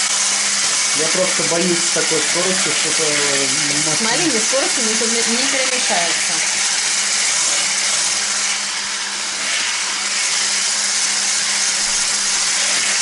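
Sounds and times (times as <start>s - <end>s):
stick blender motor hum: 0.0s - 13.0s
whisk hissing: 0.0s - 13.0s.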